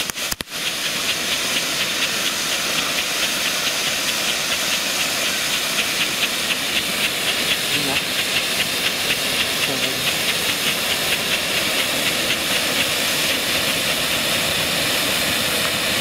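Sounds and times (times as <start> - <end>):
strobe firework hissing and popping: 0.0 - 16.0.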